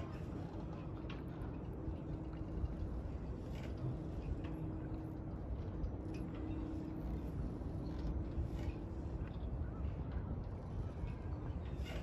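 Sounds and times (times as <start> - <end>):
machine-like hum: 0.0 - 12.0.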